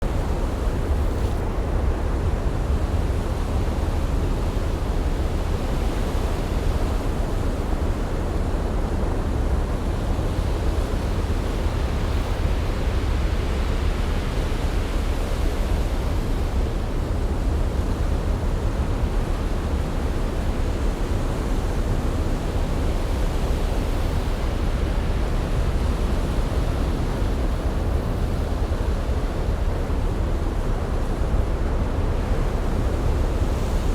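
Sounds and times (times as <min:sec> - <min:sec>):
ocean rushing noise: 0:00.0 - 0:33.9.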